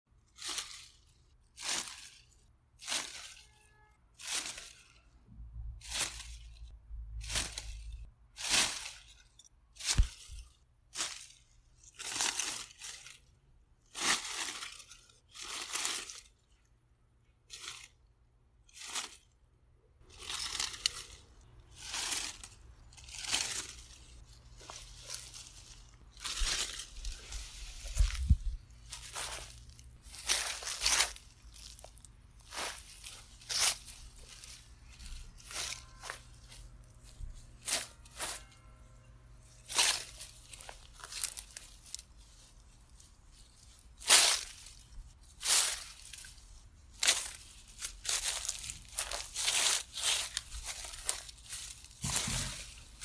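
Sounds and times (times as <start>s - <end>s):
grass and leaves rustling: 0.1s - 19.4s, 20.0s - 53.0s.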